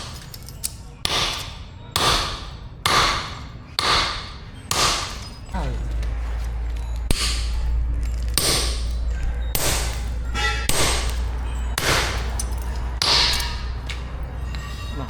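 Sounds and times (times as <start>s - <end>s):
hammer striking metal: 0.0s - 15.0s
steady low hum: 0.0s - 15.0s.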